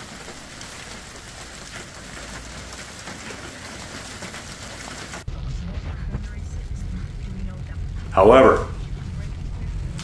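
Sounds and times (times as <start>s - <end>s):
rain on pavement and cars: 0.0s - 10.0s.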